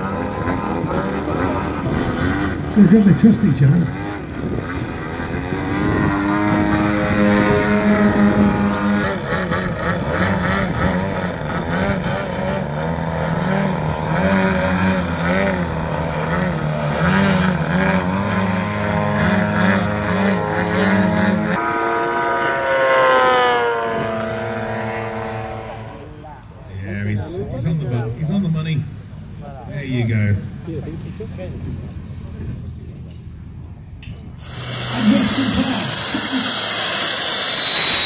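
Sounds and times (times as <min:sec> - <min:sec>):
model aircraft engines: 0:00.0 - 0:38.0.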